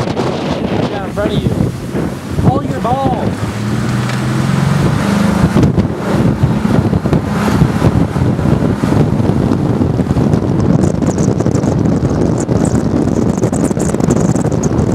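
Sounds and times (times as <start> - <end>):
vehicle engine hum: 0.0 - 14.9
wind buffeting microphone: 0.0 - 14.9.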